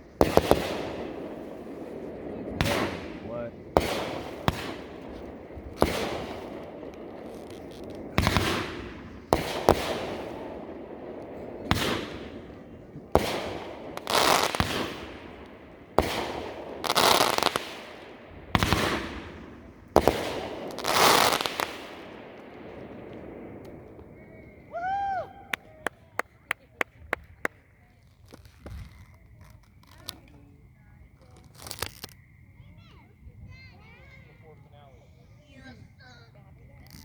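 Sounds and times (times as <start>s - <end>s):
firework shells bursting: 0.0s - 30.5s, 31.2s - 32.2s, 36.7s - 37.0s.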